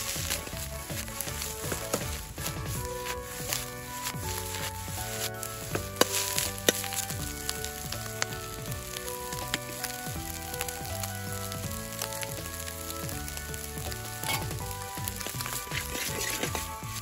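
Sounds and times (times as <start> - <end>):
background music with held notes: 0.0 - 17.0
rice sizzling in a wok: 0.0 - 17.0.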